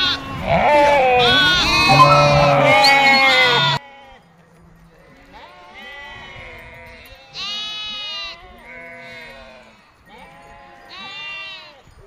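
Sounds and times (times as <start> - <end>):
sheep and goats bleating: 0.0 - 12.0.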